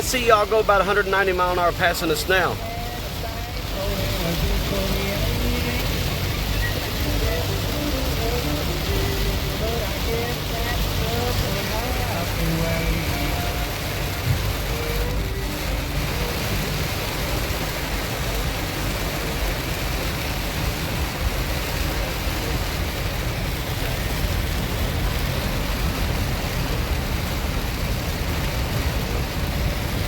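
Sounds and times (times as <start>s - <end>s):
heavy rain: 0.0s - 30.0s
tyres on flooded road: 0.0s - 30.0s.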